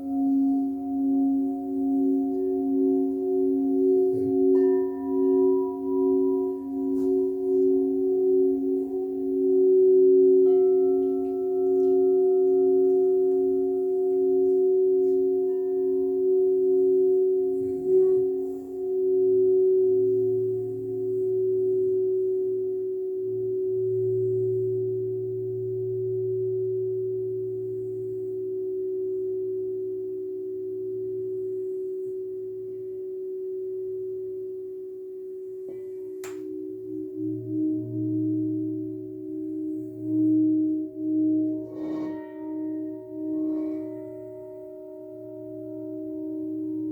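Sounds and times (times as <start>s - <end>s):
crystal singing bowls ringing: 0.0s - 46.9s.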